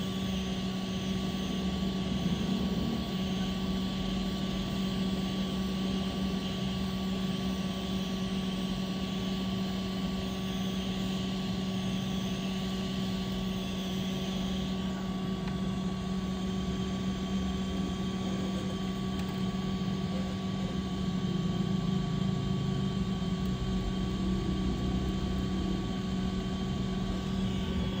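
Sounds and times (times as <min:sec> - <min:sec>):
machine hum: 0:00.0 - 0:28.0.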